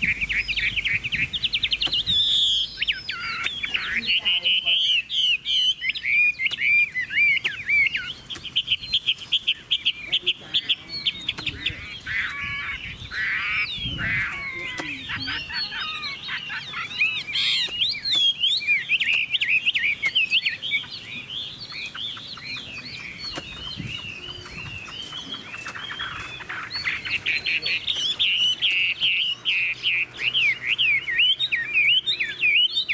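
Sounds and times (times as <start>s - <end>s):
bird singing: 0.0s - 32.9s.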